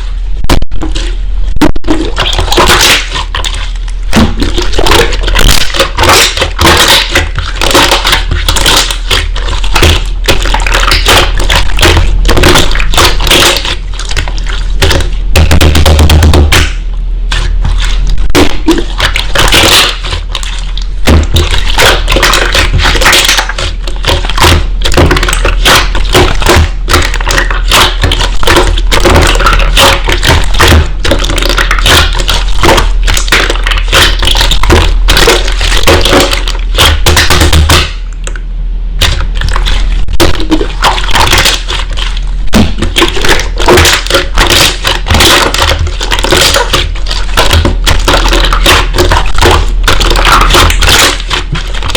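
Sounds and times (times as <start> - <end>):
slime crackling and popping: 1.8 - 38.4, 39.0 - 51.9.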